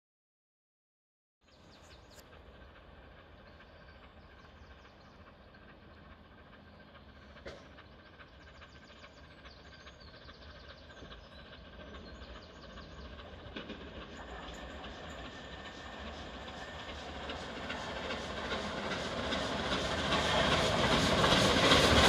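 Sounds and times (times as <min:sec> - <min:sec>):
steam train rumble: 0:01.5 - 0:22.0.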